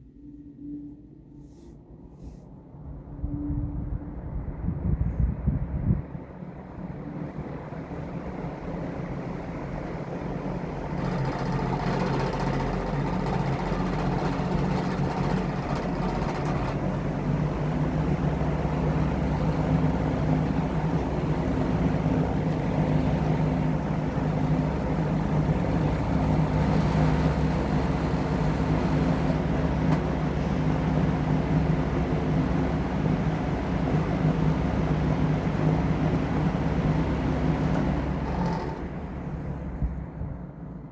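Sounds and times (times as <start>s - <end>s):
box fan running: 0.9s - 40.9s.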